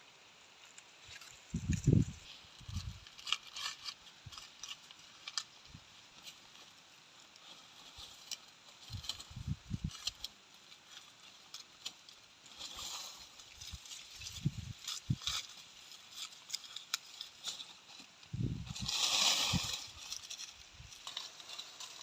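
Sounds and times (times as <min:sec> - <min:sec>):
dry corn plants rustling: 0:00.4 - 0:22.0.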